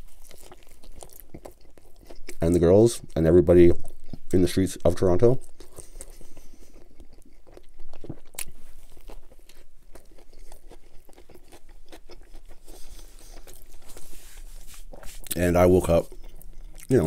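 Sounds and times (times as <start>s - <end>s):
person chewing a sandwich: 0.0s - 4.6s, 5.4s - 17.0s.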